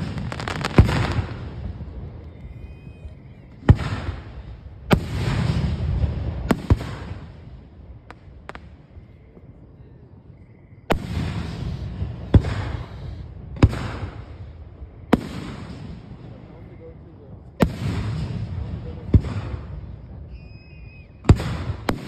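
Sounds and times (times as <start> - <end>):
fireworks bursting with crackle: 0.0 - 9.6, 10.8 - 22.0.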